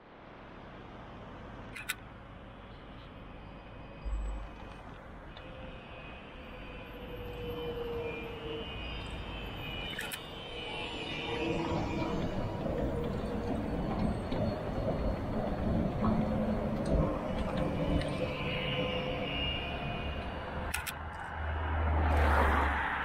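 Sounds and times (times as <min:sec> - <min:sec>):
street traffic noise: 0:00.0 - 0:23.0
tram motors whining: 0:02.6 - 0:21.0.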